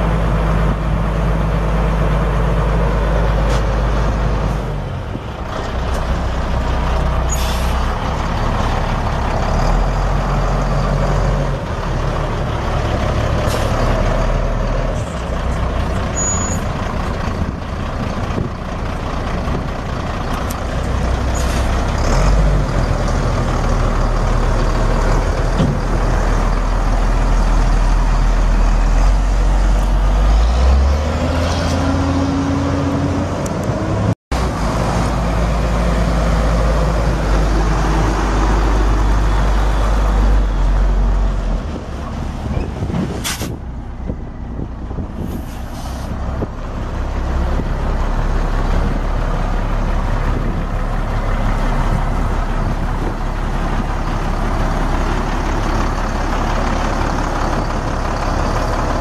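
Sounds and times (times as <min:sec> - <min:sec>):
diesel truck engine droning: 0:00.0 - 0:59.0.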